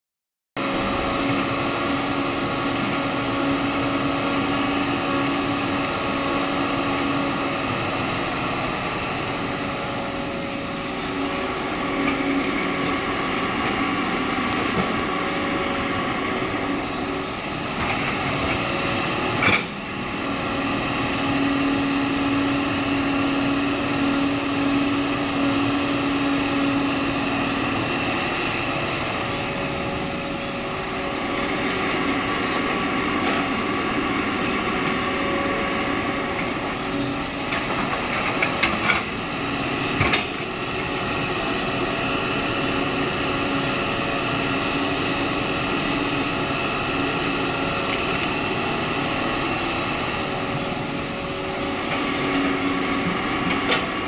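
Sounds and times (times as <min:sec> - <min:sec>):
excavator engine hum: 0:00.6 - 0:54.0.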